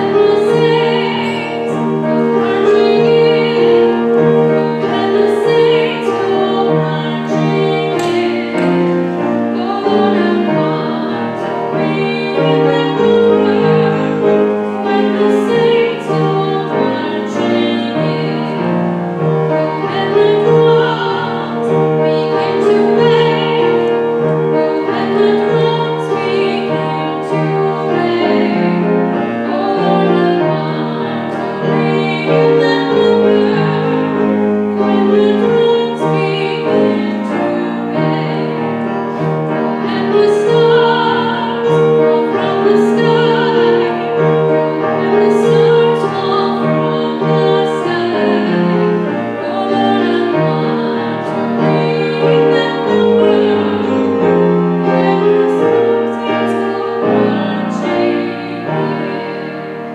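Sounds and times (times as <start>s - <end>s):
slow classical held chords: 0.0s - 59.9s.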